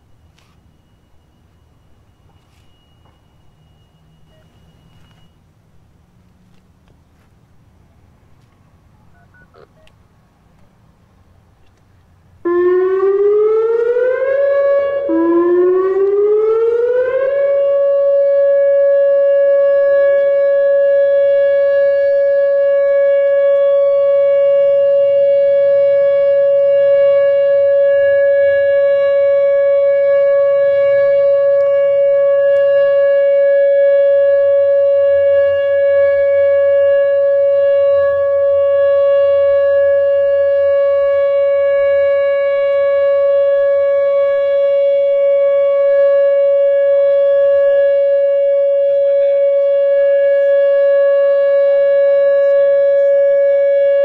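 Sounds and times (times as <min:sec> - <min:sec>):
electronic warning siren: 0:00.0 - 0:05.5, 0:09.0 - 0:09.9, 0:12.4 - 0:54.0.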